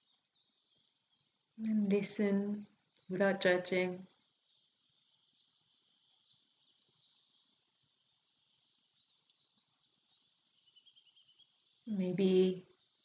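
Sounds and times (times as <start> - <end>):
distant birdsong: 0.0 - 13.0.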